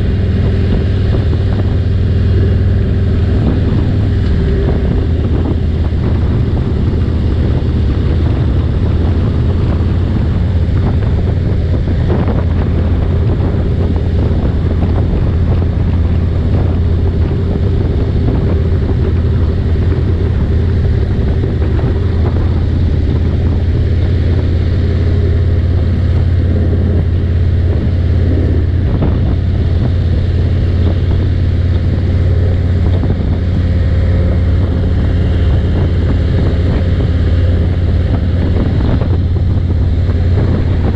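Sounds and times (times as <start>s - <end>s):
motorcycle engine cruising: 0.0s - 40.9s
wind on microphone: 0.0s - 40.9s.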